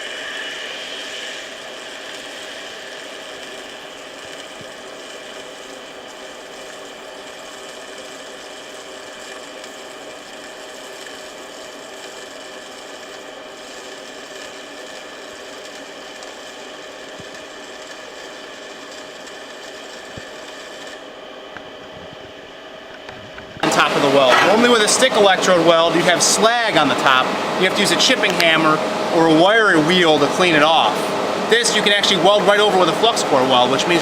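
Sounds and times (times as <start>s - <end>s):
welding arc: 0.0s - 21.6s, 23.6s - 34.0s.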